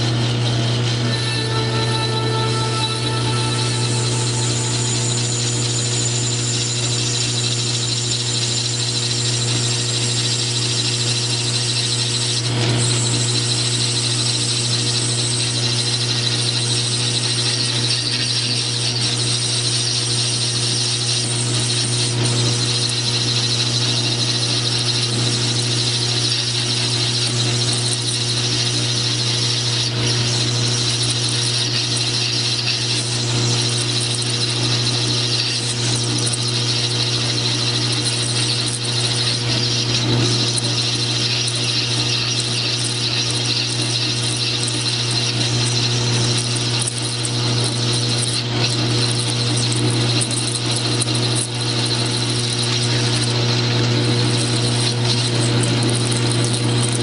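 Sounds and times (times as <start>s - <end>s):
metal lathe gear hum: 0.0s - 57.0s.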